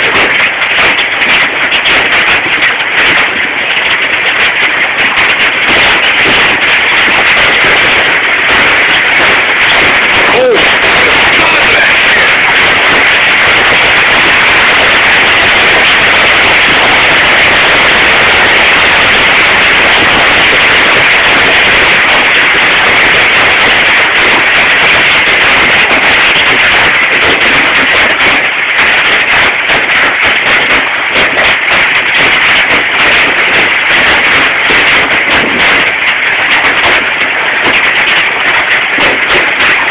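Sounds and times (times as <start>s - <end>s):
hail clattering: 0.0s - 39.9s.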